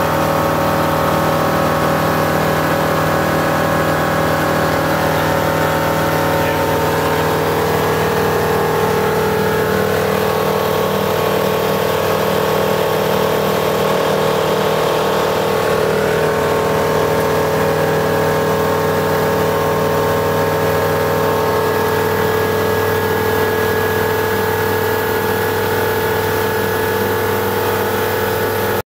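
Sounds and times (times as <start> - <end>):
aircraft engine and propeller drone: 0.0 - 28.8.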